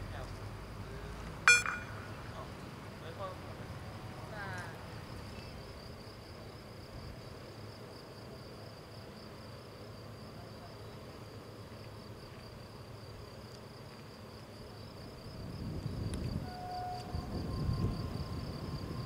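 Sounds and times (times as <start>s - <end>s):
insects chirring: 1.5s - 19.0s.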